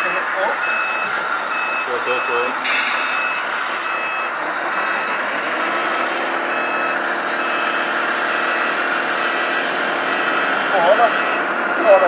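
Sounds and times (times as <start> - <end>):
reversing beeper: 0.0 - 12.0.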